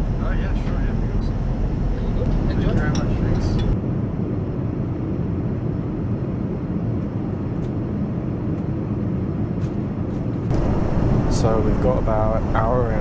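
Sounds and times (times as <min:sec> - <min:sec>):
airplane cabin drone: 0:00.7 - 0:13.0.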